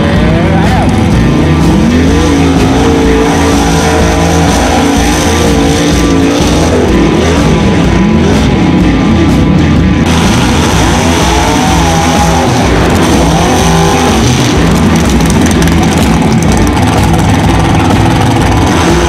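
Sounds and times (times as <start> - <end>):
engine revving: 0.0 - 19.0
rock music: 0.0 - 19.0.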